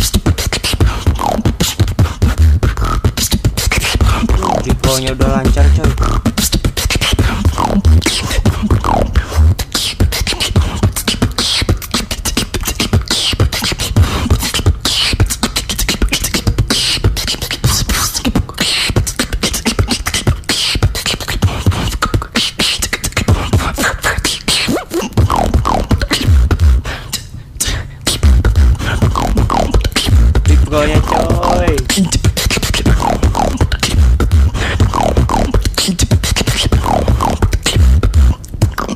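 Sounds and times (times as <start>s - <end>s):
woman beatboxing: 0.0s - 38.9s.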